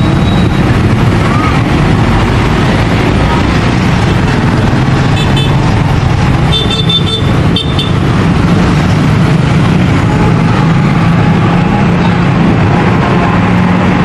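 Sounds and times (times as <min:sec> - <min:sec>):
passing road traffic rumble: 0:00.0 - 0:14.0.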